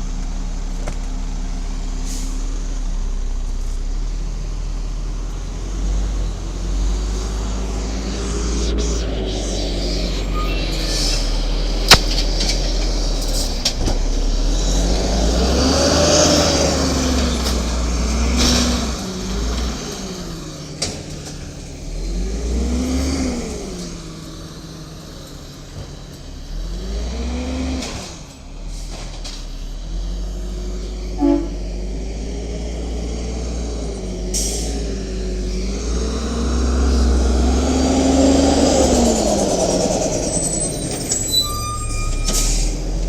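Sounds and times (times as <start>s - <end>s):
truck engine revving: 1.8s - 43.0s.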